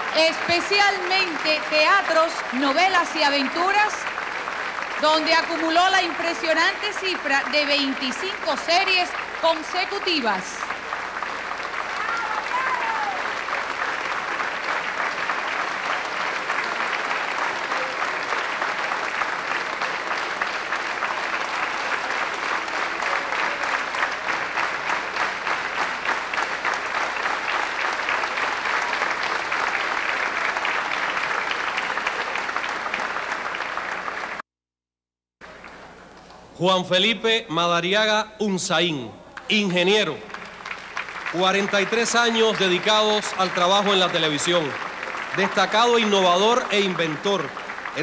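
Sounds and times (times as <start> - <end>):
audience applauding: 0.0 - 34.4, 39.3 - 48.0.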